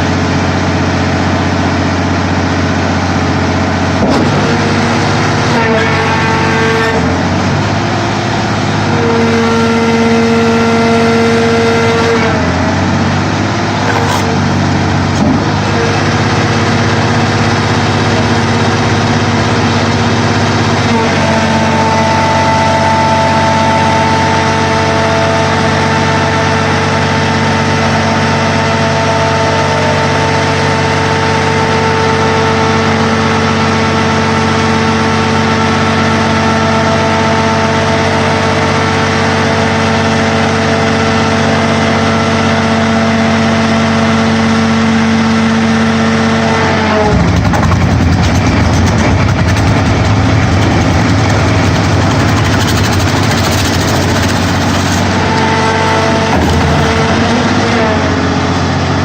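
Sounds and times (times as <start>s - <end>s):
baler machine drone with whine: 0.0s - 59.0s
higher machine tone: 2.7s - 40.2s, 48.4s - 59.0s.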